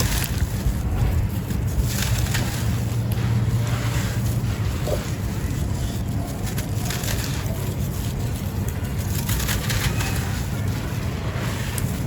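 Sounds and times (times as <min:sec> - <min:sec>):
dry crumbles crunching: 0:00.0 - 0:12.0
steady low rumble: 0:00.0 - 0:12.0.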